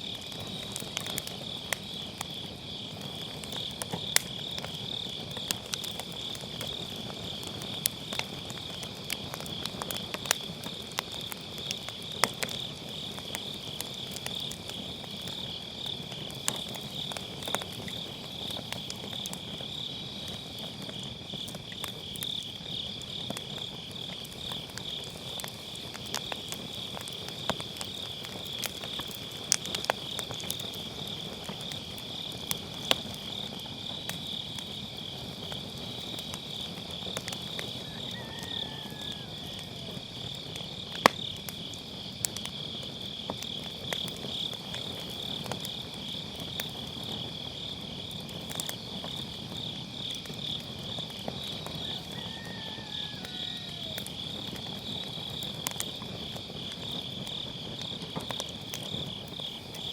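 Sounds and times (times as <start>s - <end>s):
crickets trilling: 0.0s - 59.9s
firewood crackling: 0.0s - 59.9s.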